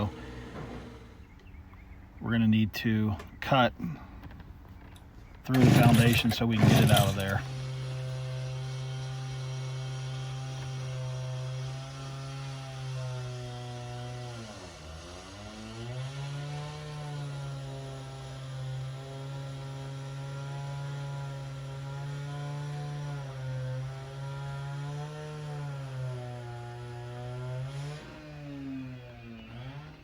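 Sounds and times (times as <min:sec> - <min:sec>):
concrete saw cutting: 0:00.0 - 0:01.4, 0:05.5 - 0:30.0.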